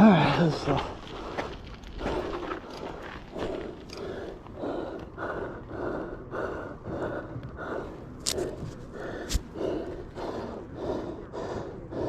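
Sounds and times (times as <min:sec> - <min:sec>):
person panting hard: 0:00.0 - 0:12.0.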